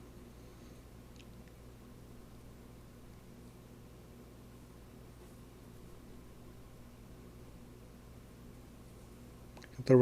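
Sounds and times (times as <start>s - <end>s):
store background hum and hiss: 0.0s - 10.0s.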